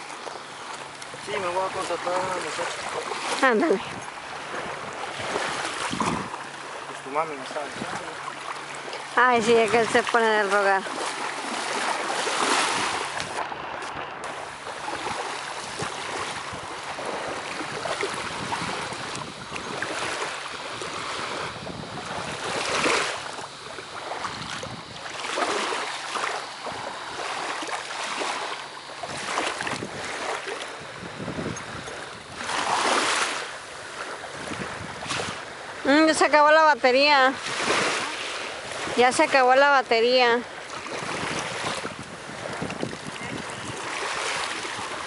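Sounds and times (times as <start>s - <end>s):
small waves lapping: 0.0s - 45.0s
wind buffeting microphone: 1.0s - 6.9s, 7.5s - 25.5s, 28.8s - 45.0s.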